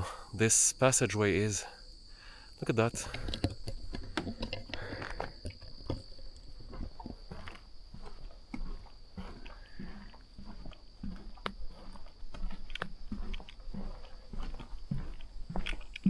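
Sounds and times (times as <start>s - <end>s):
high insect drone: 0.0s - 16.0s
footsteps crackling on trail: 0.7s - 16.0s.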